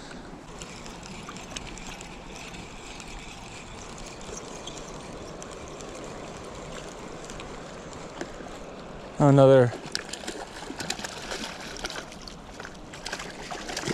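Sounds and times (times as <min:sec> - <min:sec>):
water lapping: 0:00.0 - 0:13.9.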